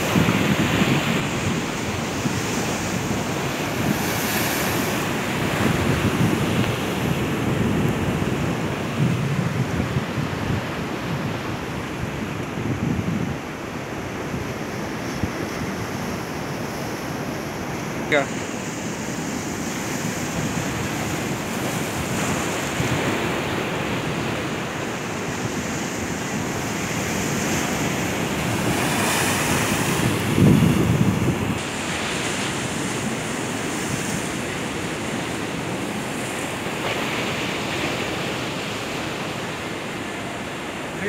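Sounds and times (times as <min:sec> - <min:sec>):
wind buffeting microphone: 0:00.0 - 0:17.9, 0:19.0 - 0:40.7
sea waves breaking on rocks: 0:00.0 - 0:41.0.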